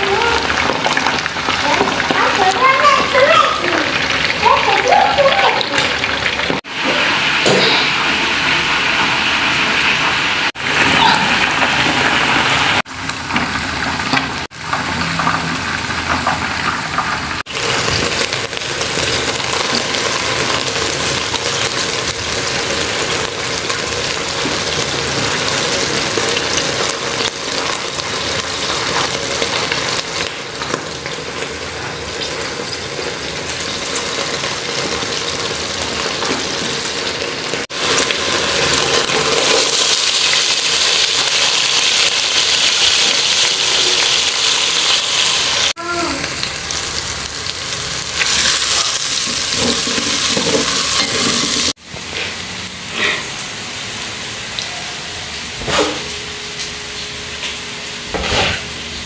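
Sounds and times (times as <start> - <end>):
hot oil sizzling: 0.0 - 59.0.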